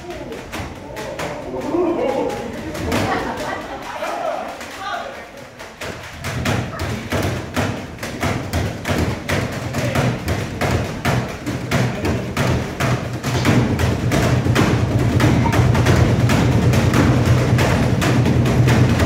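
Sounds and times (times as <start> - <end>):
percussion on trash cans: 0.0 - 19.0.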